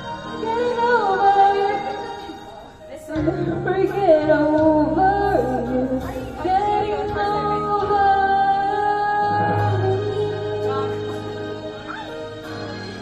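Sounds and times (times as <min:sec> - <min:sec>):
karaoke backing track: 0:00.0 - 0:13.0
woman singing a pop ballad: 0:00.0 - 0:13.0.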